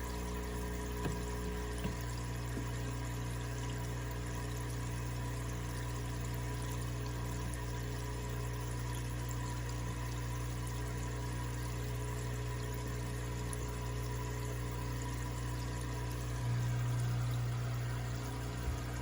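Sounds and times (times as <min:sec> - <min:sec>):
running water: 0:00.0 - 0:19.0
water pump humming: 0:00.0 - 0:19.0.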